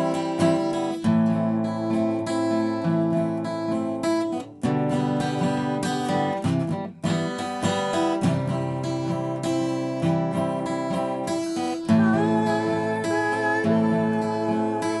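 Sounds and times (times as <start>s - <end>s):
acoustic guitar picking arpeggios: 0.0s - 15.0s.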